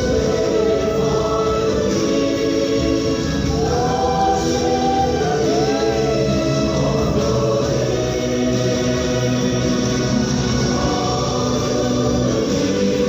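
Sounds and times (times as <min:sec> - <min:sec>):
choir singing long notes: 0:00.0 - 0:13.0.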